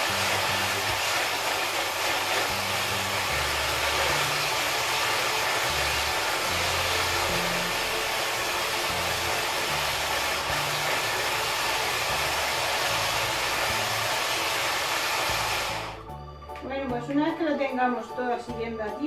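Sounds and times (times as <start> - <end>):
electric hand mixer running: 0.0 - 16.2.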